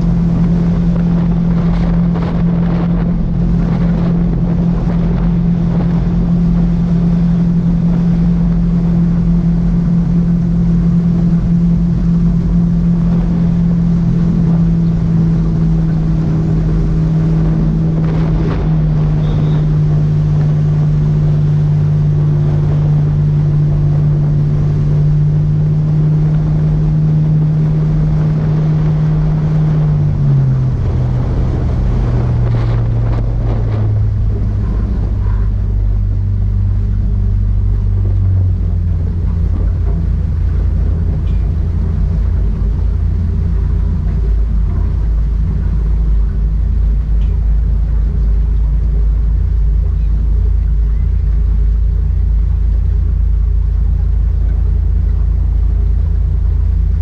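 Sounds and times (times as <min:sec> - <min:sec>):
motorboat engine running: 0:00.0 - 0:57.0
water rushing past: 0:00.0 - 0:57.0
wind buffeting microphone: 0:00.0 - 0:57.0.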